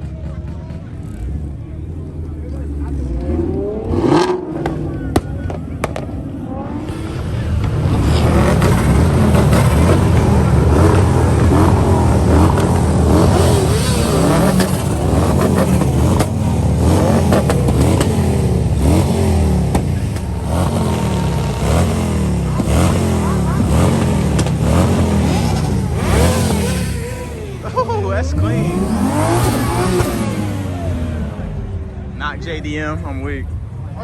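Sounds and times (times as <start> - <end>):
car engine revving hard: 3.0 - 32.0.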